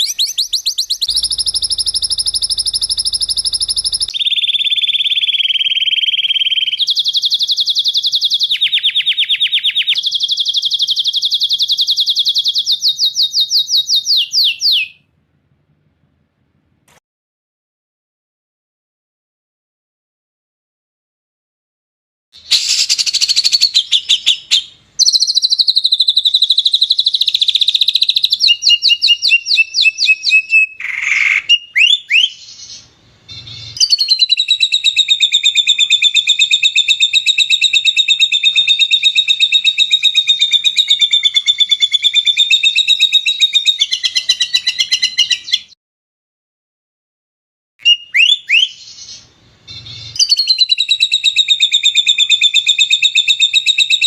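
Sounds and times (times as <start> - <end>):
songbird chirping trills: 0.0 - 15.1, 22.4 - 45.8, 47.8 - 54.0.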